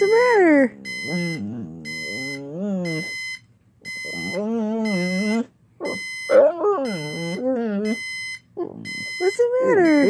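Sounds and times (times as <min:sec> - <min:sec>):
dog whining: 0:00.0 - 0:03.2, 0:03.9 - 0:10.0
alarm clock beeping: 0:00.0 - 0:10.0.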